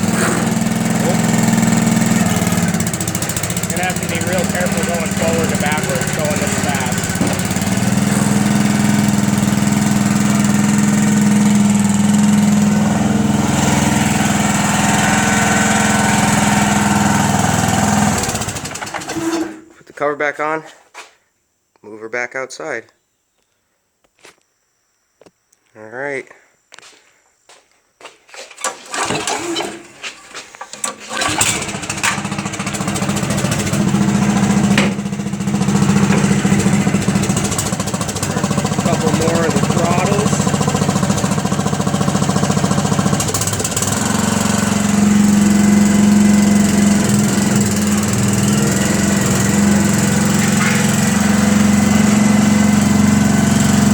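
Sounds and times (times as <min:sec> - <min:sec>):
roller engine running: 0:00.0 - 0:19.6, 0:28.6 - 0:53.9.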